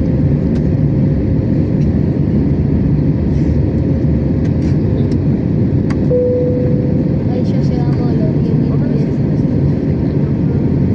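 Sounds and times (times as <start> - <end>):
airplane cabin drone: 0.0 - 10.9.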